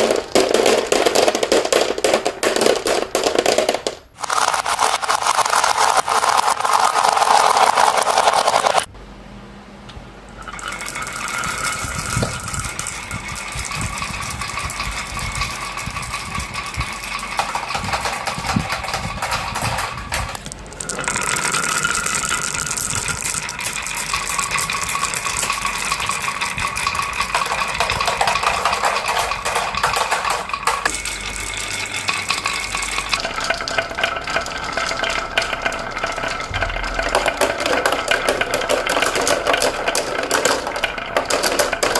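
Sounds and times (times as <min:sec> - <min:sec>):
marbles rolling and clattering: 0:00.0 - 0:08.9, 0:10.4 - 0:41.9.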